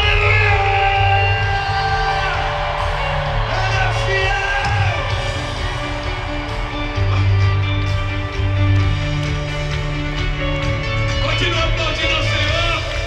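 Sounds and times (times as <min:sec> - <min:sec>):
band with heavy bass: 0:00.0 - 0:13.0.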